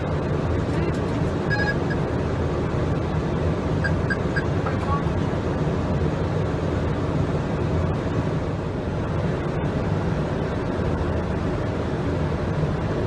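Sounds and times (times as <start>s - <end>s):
jet engines and airflow rumble: 0.0s - 13.0s.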